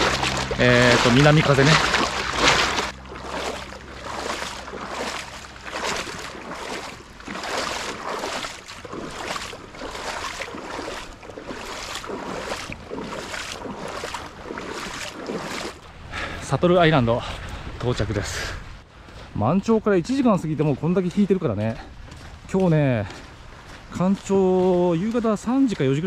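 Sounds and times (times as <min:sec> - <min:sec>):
legs wading through shallow water: 0:00.0 - 0:17.8, 0:18.6 - 0:26.0.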